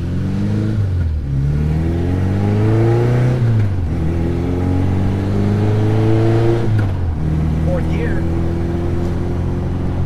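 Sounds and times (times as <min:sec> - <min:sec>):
small truck engine revving: 0:00.0 - 0:10.0.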